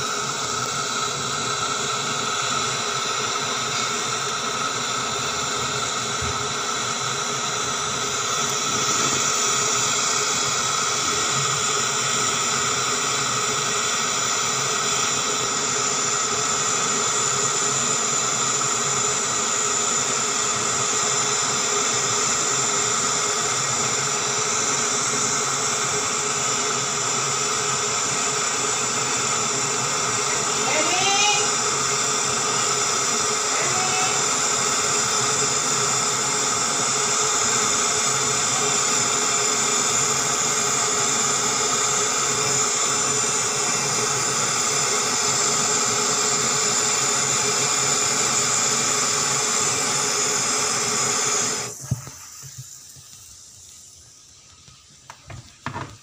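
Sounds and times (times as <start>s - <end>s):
gas torch hissing: 0.0s - 56.0s.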